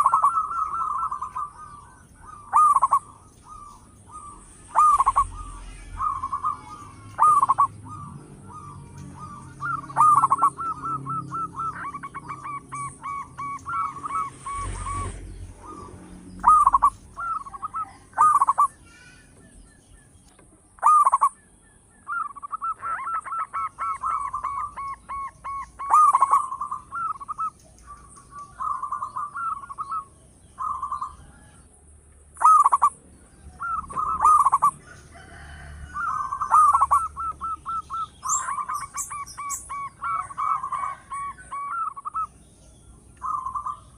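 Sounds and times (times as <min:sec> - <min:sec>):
dove cooing: 0:00.0 - 0:19.6, 0:20.8 - 0:21.4, 0:22.0 - 0:31.7, 0:32.4 - 0:43.9.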